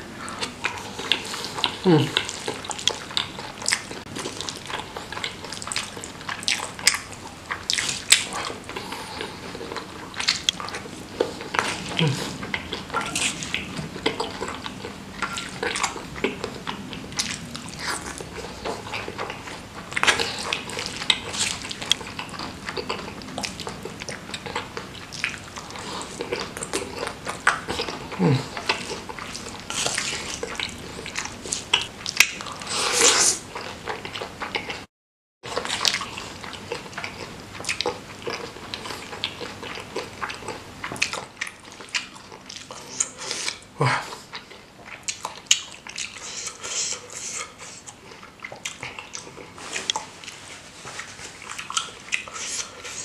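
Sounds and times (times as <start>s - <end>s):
wet chewing and slurping: 0.0s - 53.0s.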